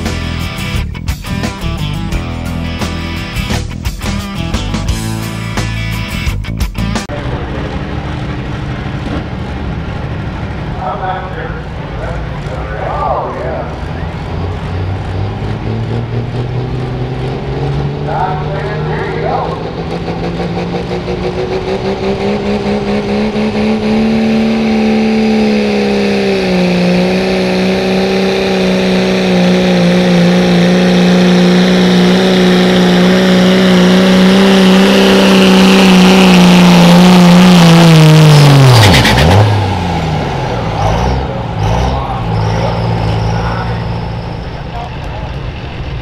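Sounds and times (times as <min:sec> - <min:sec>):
high whine: 0:00.0 - 0:46.0
diesel pickup engine under load: 0:07.0 - 0:46.0.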